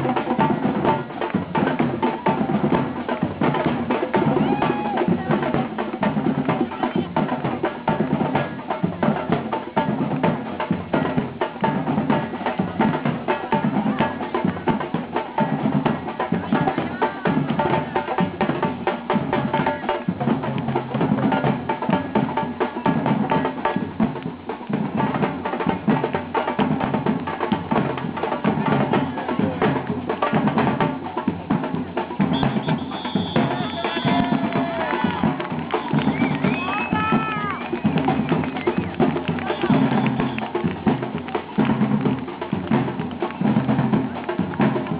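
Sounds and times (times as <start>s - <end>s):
percussion music with drums: 0.0s - 44.9s.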